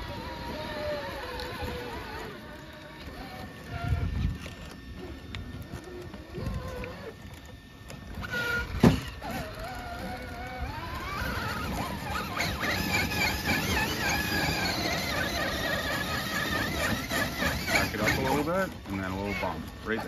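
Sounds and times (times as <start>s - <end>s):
rc crawler motor whining: 0.0s - 20.0s.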